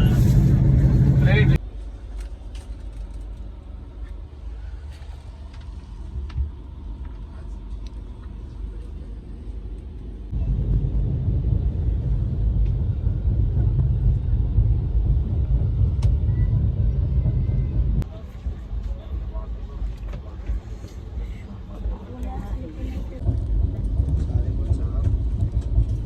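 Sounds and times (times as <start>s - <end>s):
steady low hum: 0.0s - 26.0s
train rumbling: 0.0s - 26.0s.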